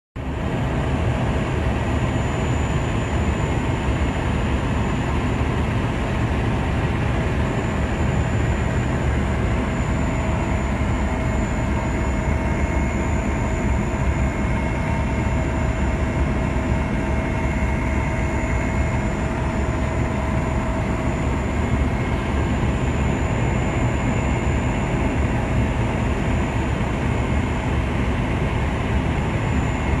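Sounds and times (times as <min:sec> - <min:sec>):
aircraft engine drone: 0:00.2 - 0:30.0.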